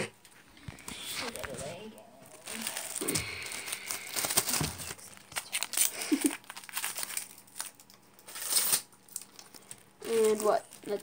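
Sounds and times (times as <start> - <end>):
crinkling and rustling handling: 0.2 - 11.0.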